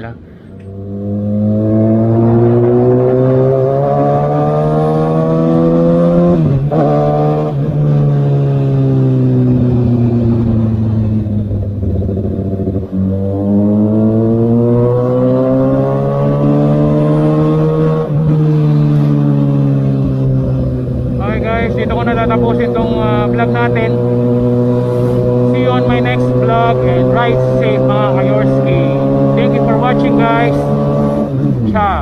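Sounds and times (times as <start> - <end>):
motorcycle engine revving: 0.6 - 32.0.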